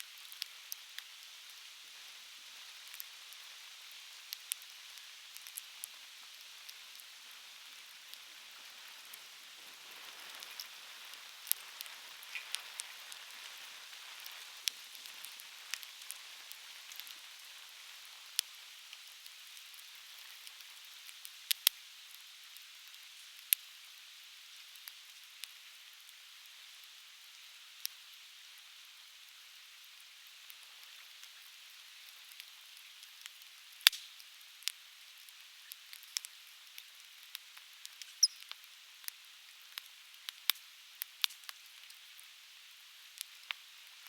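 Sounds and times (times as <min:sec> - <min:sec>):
campfire crackling: 0:00.1 - 0:22.2, 0:29.9 - 0:44.0.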